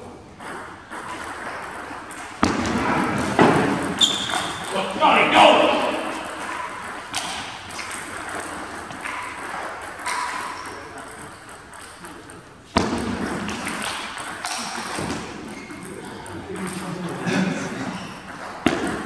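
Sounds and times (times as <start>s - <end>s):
table tennis balls clicking: 0.3s - 4.8s, 5.9s - 17.2s.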